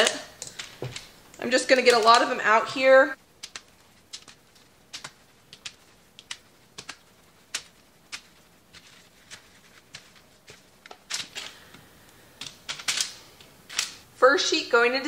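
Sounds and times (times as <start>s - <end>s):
parchment paper rustling: 0.0s - 14.0s.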